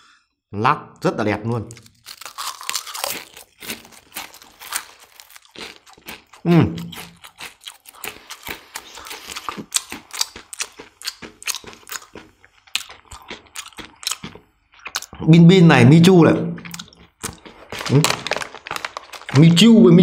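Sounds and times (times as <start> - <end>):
potato chips crunching: 1.7 - 15.2, 16.6 - 19.9.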